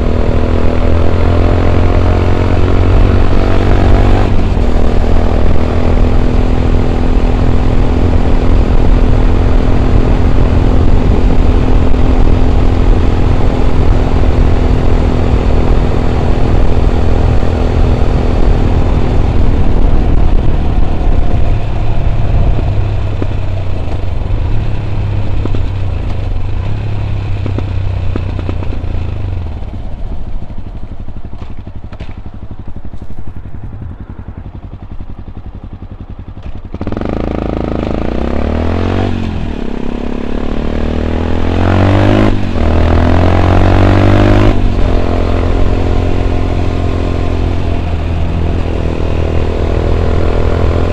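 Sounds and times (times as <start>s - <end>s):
motorcycle engine while riding: 0.0s - 50.9s.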